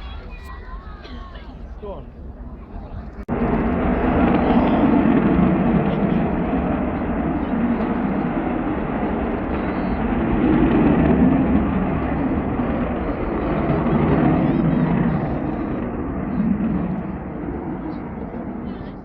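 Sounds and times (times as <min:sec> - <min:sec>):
jet aircraft flyby: 0:00.0 - 0:19.0.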